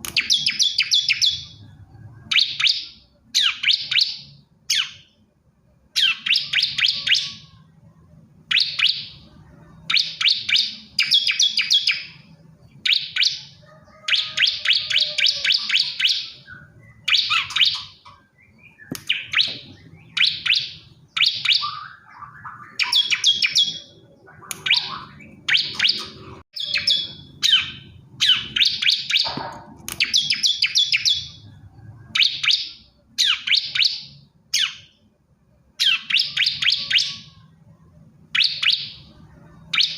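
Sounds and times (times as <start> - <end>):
bird singing rapid trills: 0.1 - 5.2, 5.9 - 7.7, 8.5 - 29.4, 30.0 - 35.1, 35.8 - 37.5.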